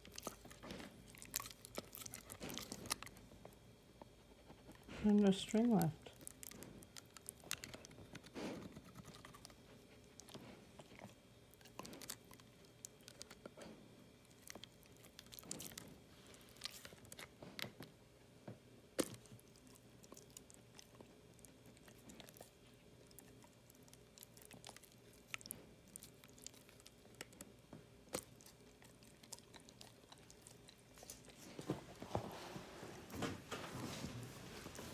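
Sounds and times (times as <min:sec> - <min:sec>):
dog chewing on plastic: 0:00.0 - 0:04.9, 0:05.6 - 0:18.0, 0:19.0 - 0:32.3.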